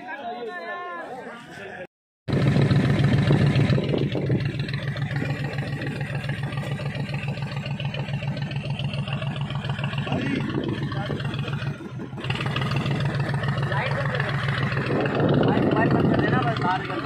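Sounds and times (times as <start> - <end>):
boat engine throbbing: 2.3 - 17.0.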